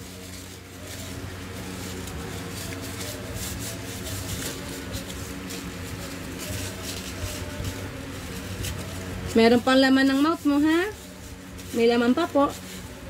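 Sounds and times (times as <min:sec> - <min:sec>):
faint rustles and clicks: 0:00.0 - 0:13.0
steady low hum: 0:00.0 - 0:13.0.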